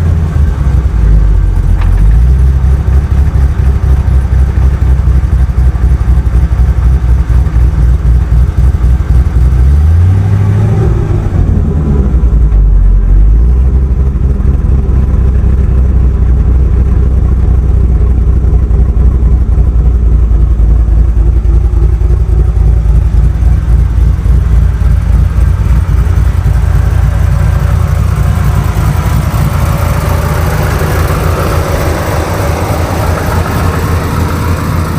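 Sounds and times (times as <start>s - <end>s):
car engine idling with rattle: 0.0s - 34.9s.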